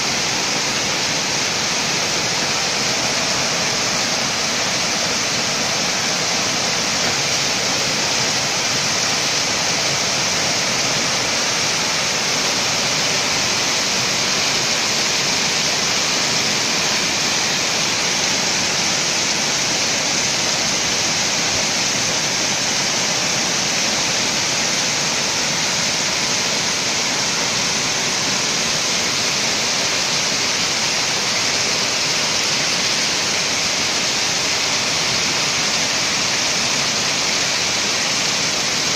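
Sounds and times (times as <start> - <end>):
heavy rain hissing: 0.0 - 38.9
rainwater pouring off roof: 0.0 - 38.9.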